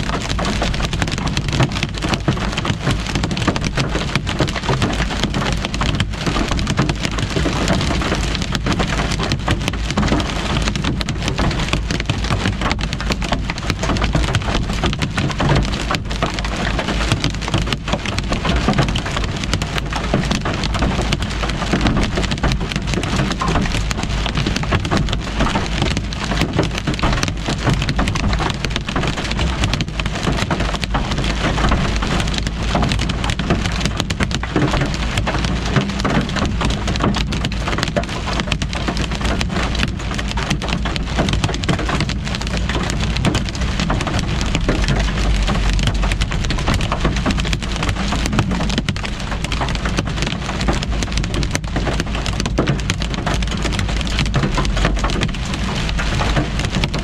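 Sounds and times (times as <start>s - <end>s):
rain and hail on car roof: 0.0s - 57.0s.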